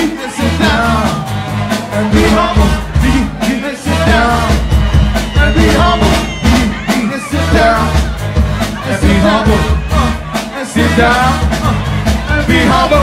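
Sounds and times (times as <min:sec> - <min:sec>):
upbeat pop song with vocals: 0:00.0 - 0:13.0.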